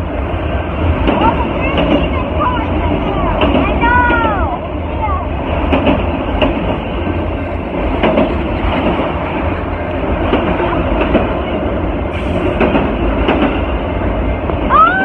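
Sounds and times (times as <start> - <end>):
train wheels rumbling on rail: 0.0 - 15.0
wheels clacking over rail joints: 0.8 - 14.8.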